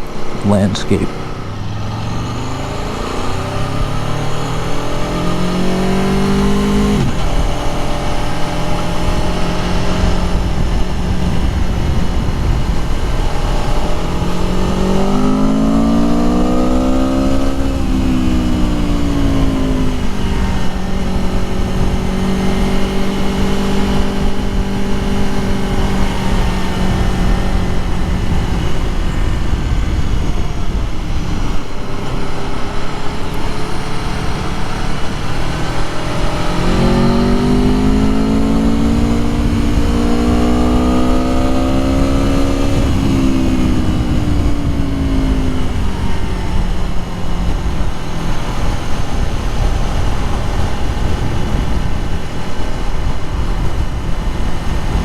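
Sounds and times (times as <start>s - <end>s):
wind and road noise: 0.0s - 55.0s
motorcycle engine revving: 1.1s - 55.0s.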